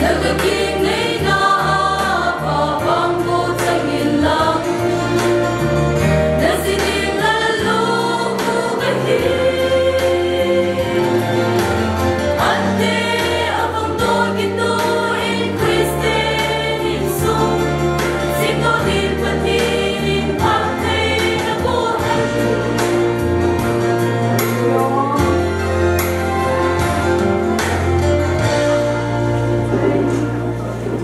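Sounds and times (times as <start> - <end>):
mixed choir singing: 0.0 - 25.6.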